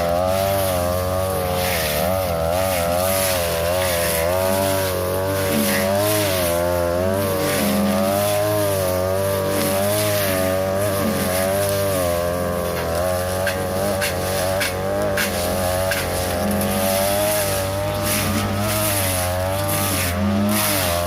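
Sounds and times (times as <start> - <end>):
brush cutter running: 0.0 - 21.0.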